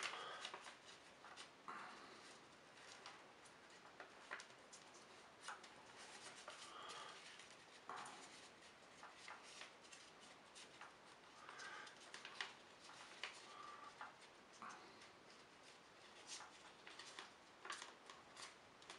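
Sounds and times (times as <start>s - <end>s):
paper being creased and folded: 0.0s - 1.6s, 2.7s - 18.9s.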